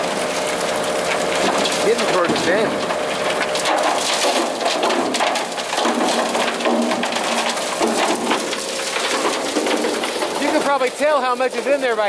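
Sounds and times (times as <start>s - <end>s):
concrete chunks rattling in drum: 0.0s - 12.0s.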